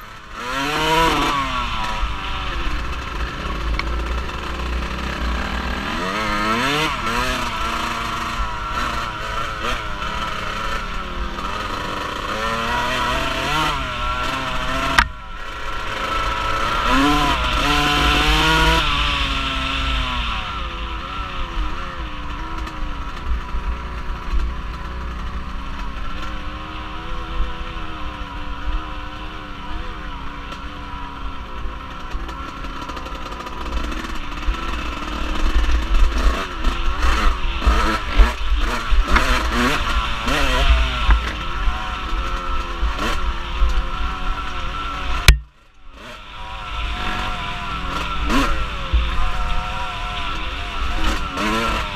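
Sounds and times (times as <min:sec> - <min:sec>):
vehicle engine revving: 0:00.0 - 0:51.9.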